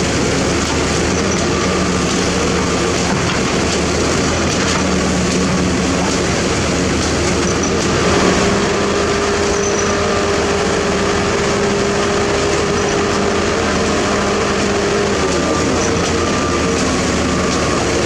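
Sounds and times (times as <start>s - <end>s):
diesel construction machinery running: 0.0s - 18.0s.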